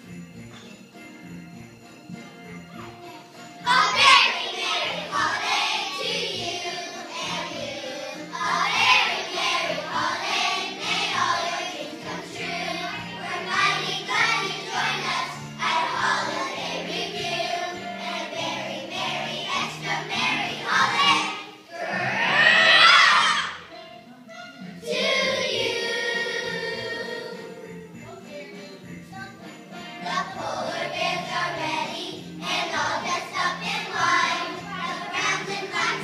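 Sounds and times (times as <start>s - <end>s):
musical accompaniment: 0.0s - 36.0s
children's choir singing: 2.8s - 23.8s, 24.8s - 28.0s, 30.0s - 36.0s.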